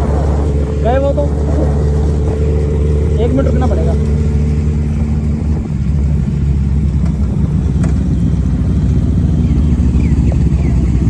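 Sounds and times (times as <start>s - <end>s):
motorcycle engine running low revs: 0.0s - 11.0s.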